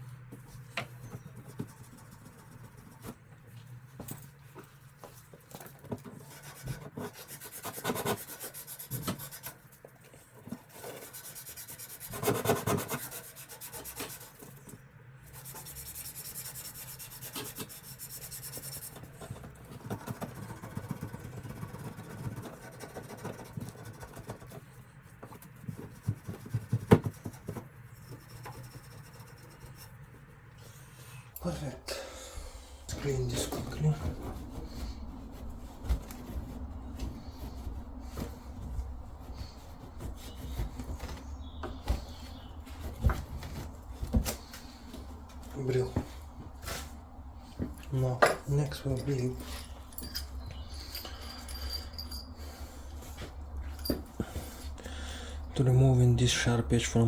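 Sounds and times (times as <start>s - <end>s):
scratchy scrubbing of a pipe: 0.0s - 31.0s, 33.0s - 57.0s.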